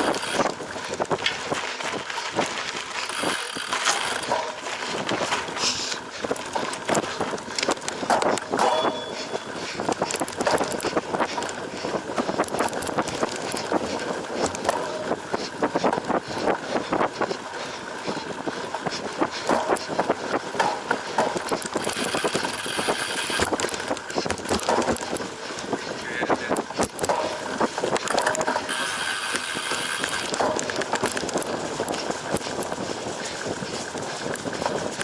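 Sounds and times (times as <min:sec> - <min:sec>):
bike clattering and rattling: 0:00.0 - 0:35.0
tyre noise: 0:00.0 - 0:35.0.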